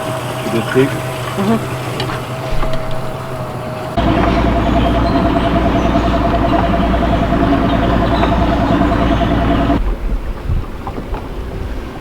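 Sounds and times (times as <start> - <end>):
boat motor running: 0.0 - 9.8.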